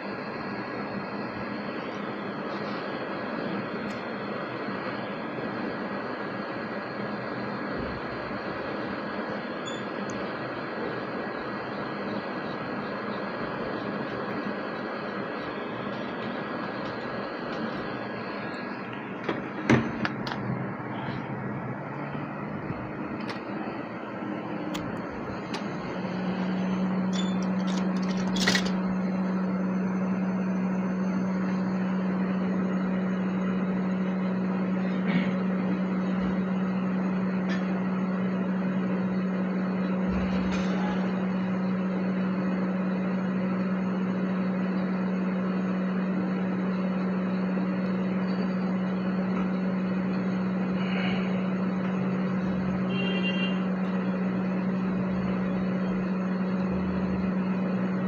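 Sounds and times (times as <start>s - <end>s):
hot air station blowing: 0.0s - 58.0s.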